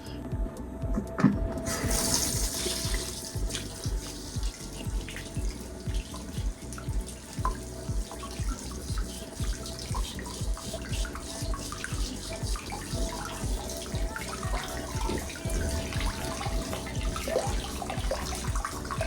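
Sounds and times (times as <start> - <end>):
background music with a beat: 0.0 - 19.0
water running from a tap: 1.7 - 19.0.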